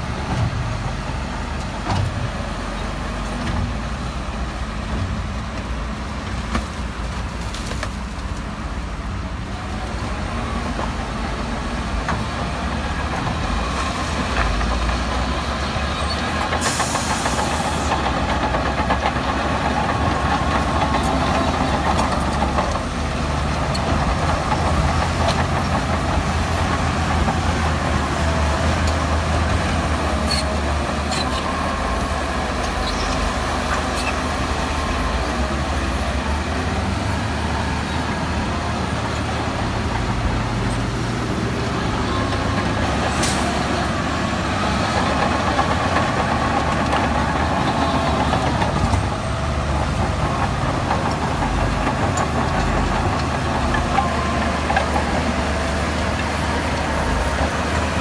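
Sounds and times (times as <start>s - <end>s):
diesel machinery engine rumble: 0.0s - 58.0s.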